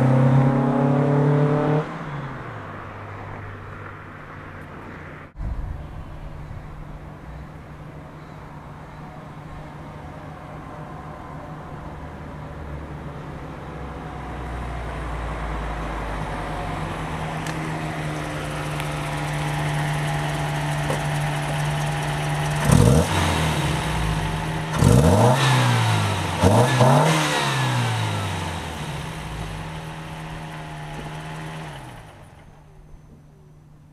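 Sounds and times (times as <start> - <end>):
car engine idling and revving: 0.0 - 33.8.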